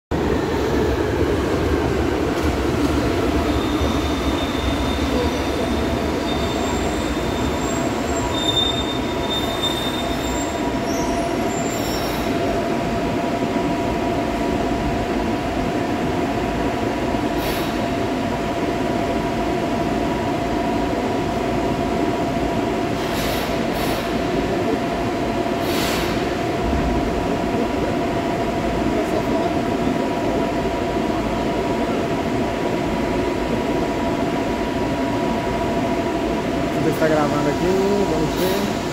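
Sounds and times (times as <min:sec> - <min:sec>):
train hum with held tones: 0:00.1 - 0:38.9
electric train whine: 0:00.2 - 0:38.9.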